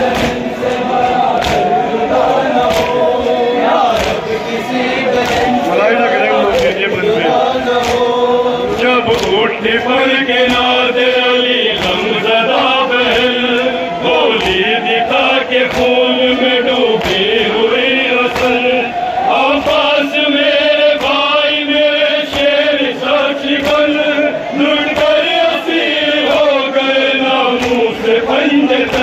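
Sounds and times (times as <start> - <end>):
men chanting in unison: 0.0 - 29.0
person reciting into a microphone: 0.0 - 29.0
rhythmic sharp slap: 0.0 - 29.0.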